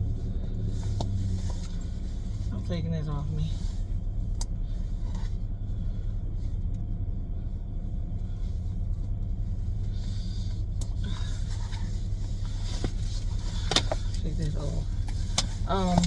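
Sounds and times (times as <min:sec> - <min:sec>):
car idling from inside cabin: 0:00.0 - 0:16.0
faint rustling: 0:00.0 - 0:16.0.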